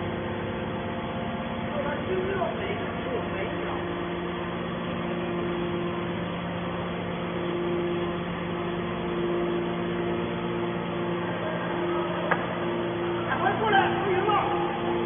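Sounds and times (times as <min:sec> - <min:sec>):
high-pitched whine: 0:00.0 - 0:15.0
motor and pump hum: 0:00.0 - 0:15.0.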